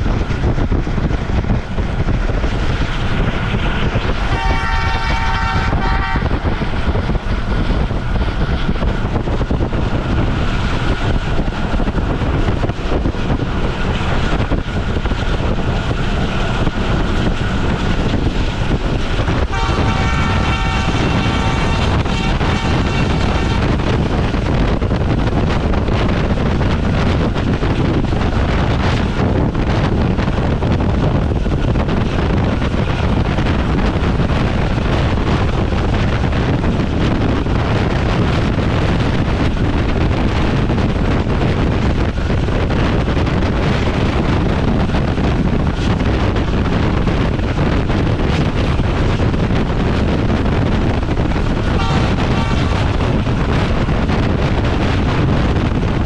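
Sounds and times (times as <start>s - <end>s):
train running at speed: 0.0s - 56.0s
wind buffeting microphone: 0.0s - 56.0s.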